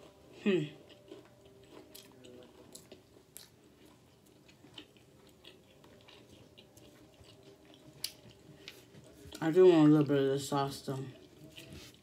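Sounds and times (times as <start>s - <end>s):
chewing fried chicken: 0.0s - 12.0s.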